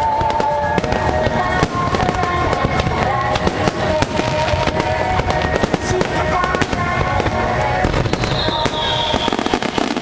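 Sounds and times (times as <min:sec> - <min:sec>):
fireworks bangs and crackling: 0:00.0 - 0:10.0
music with held notes: 0:00.0 - 0:10.0.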